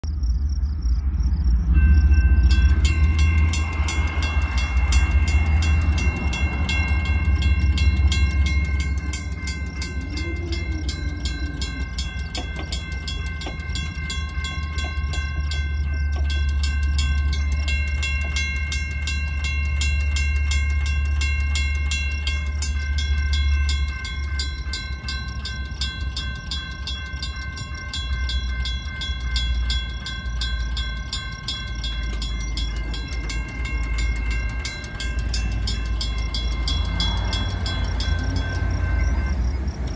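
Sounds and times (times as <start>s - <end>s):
low rumble: 0.0s - 39.9s
railroad crossing bells ringing: 0.1s - 39.9s.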